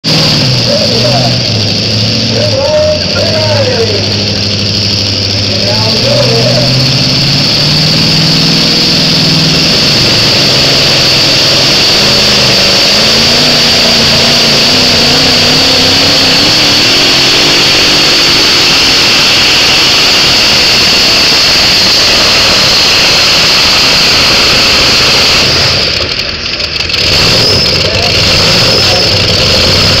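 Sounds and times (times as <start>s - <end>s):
tractor engine running hard: 0.0s - 30.0s.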